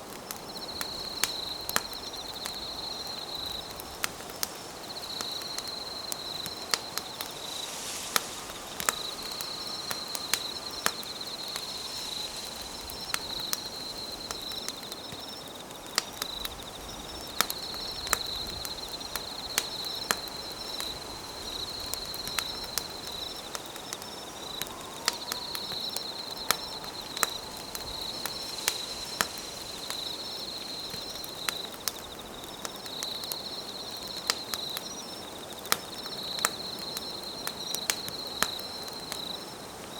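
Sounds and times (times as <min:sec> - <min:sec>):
campfire crackling and popping: 0:00.0 - 0:39.9
insects trilling: 0:00.0 - 0:39.9.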